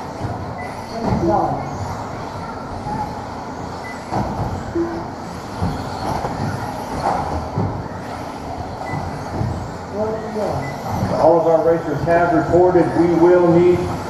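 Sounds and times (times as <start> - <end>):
rc car motors whirring: 0.0 - 14.0.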